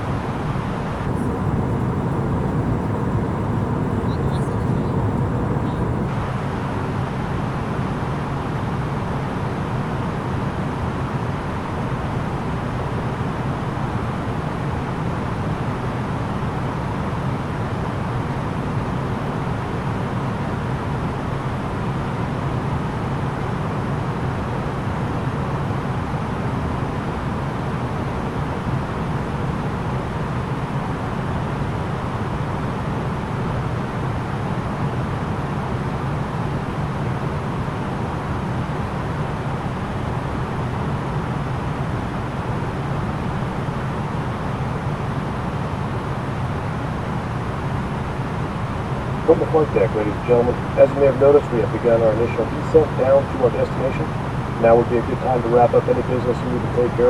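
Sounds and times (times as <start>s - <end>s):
aircraft cabin engine hum: 0.0s - 57.0s
faint steady whine: 0.0s - 57.0s.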